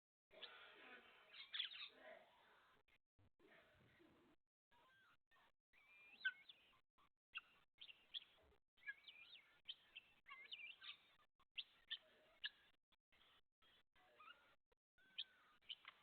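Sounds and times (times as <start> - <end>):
faint bird chirping: 0.3 - 16.0.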